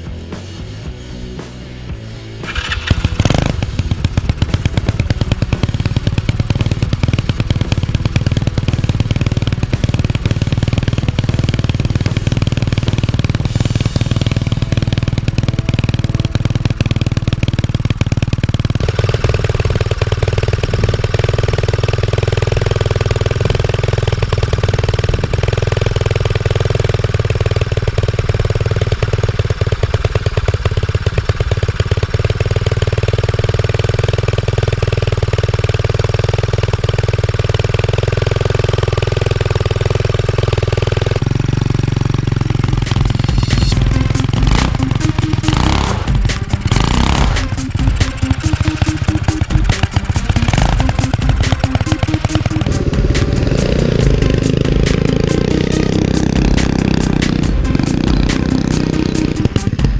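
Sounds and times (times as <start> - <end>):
motorbike engine idling: 0.0 - 59.9.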